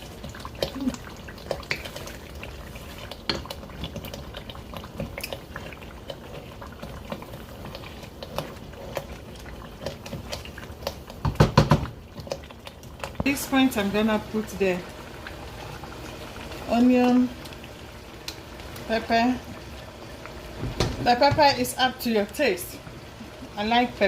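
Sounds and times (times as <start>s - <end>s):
thick soup bubbling: 0.0s - 24.0s.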